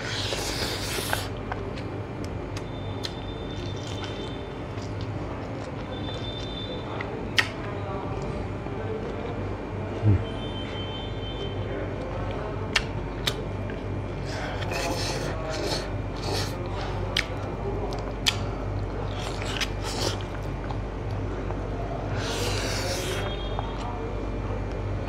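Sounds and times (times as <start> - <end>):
man chewing and crunching: 0.0 - 8.4, 12.0 - 23.9
steady low hum: 0.0 - 25.0.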